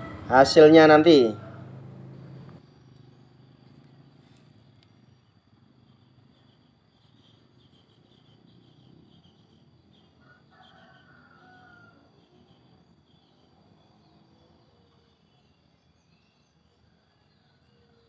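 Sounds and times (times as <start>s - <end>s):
drawn-out bird call: 0.0s - 18.0s
faint bird chirps: 1.1s - 18.0s.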